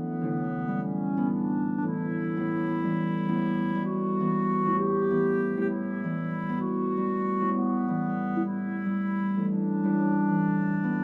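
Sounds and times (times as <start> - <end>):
slow woodwind melody: 0.0 - 11.0
soft musical accompaniment: 0.0 - 11.0.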